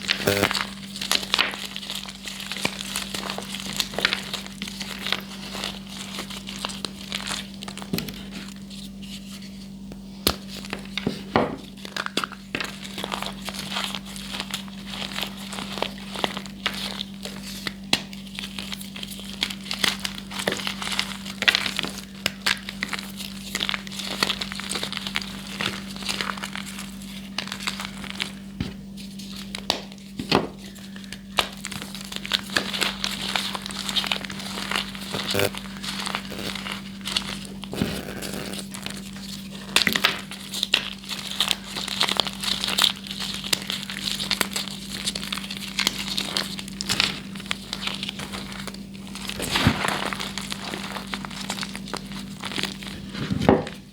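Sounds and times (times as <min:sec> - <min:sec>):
chalk crunching and cracking: 0:00.0 - 0:53.3.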